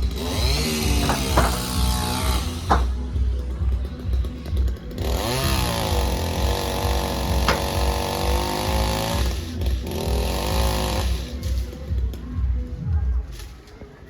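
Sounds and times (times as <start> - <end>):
chainsaw revving: 0.0 - 12.2.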